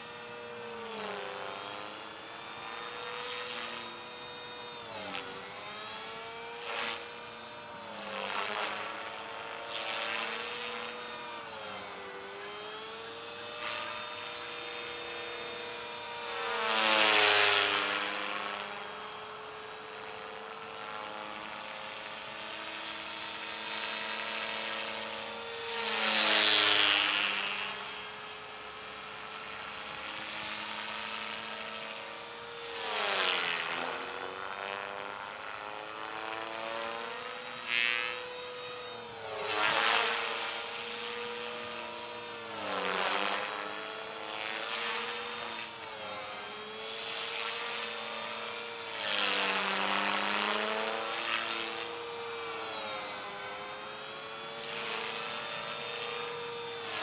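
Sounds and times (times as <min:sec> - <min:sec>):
rc helicopter rotor buzz: 0:00.0 - 0:57.0.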